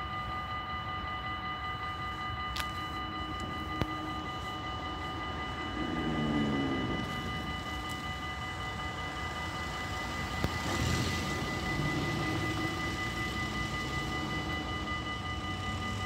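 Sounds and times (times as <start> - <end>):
distant train rumble: 0.0 - 16.0
steady high tones: 0.0 - 16.0.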